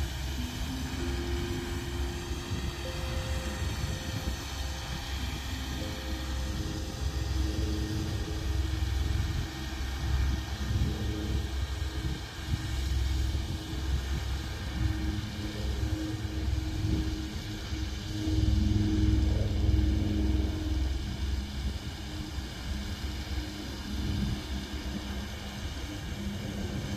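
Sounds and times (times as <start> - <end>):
cultivator engine humming: 0.0 - 26.9.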